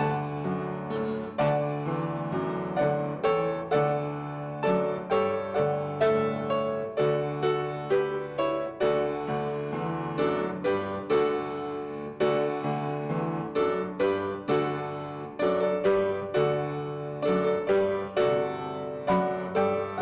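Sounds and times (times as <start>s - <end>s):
piano playing chords and melody: 0.0s - 20.0s.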